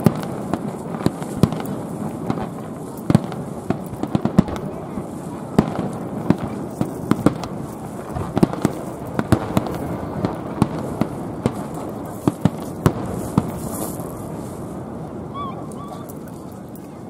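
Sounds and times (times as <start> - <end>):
firework bangs and cracks: 0.0 - 15.4
continuous fireworks rumble: 0.0 - 17.0.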